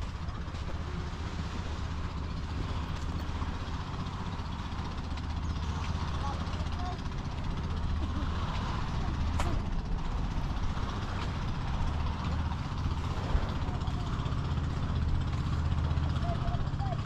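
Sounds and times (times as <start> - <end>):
surf: 0.0 - 17.0
wind: 0.0 - 17.0.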